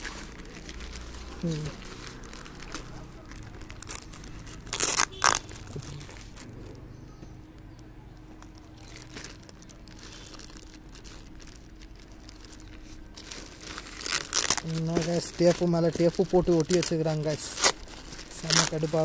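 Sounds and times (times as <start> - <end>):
packing tape ripping: 0.0 - 6.6, 8.3 - 19.0
plastic mailer crinkling: 0.0 - 19.0.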